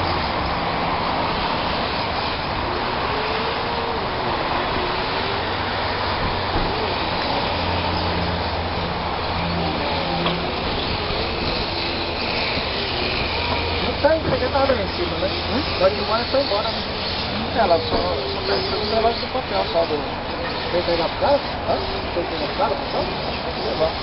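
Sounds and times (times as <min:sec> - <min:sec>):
remote control cars whirring: 0:00.0 - 0:24.0
faint voices: 0:01.9 - 0:24.0.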